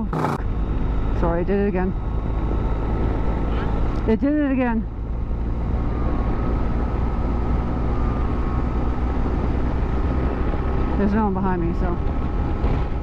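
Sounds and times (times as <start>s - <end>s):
motorcycle rumble: 0.0s - 13.0s.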